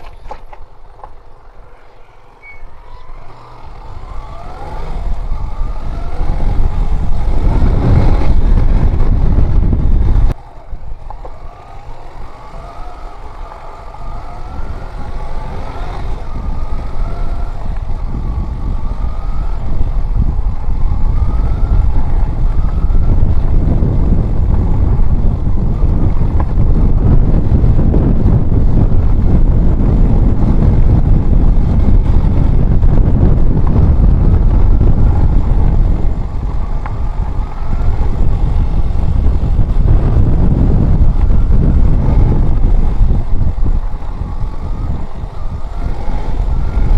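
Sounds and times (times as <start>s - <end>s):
motorcycle engine revving: 0.0s - 46.9s
wind noise on microphone: 0.0s - 46.9s.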